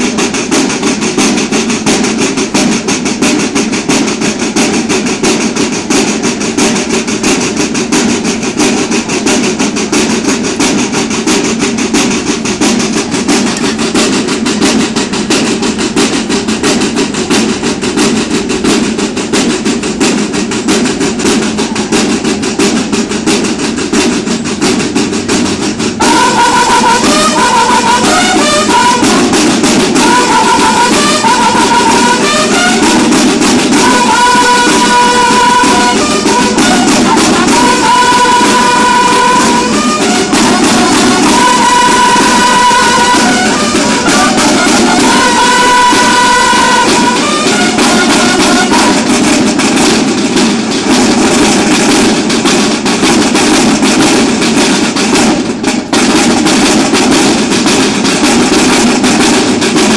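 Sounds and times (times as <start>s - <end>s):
bugles playing fanfare: 0.0s - 59.9s
marching drums: 0.0s - 59.9s.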